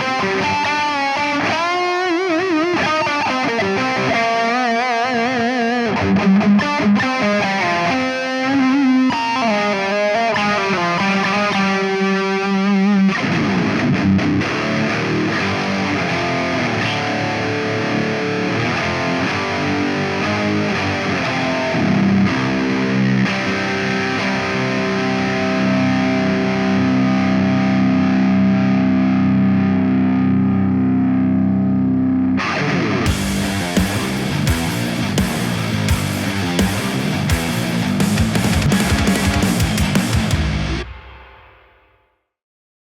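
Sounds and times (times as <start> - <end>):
distorted electric guitar riffs: 0.0 - 42.0.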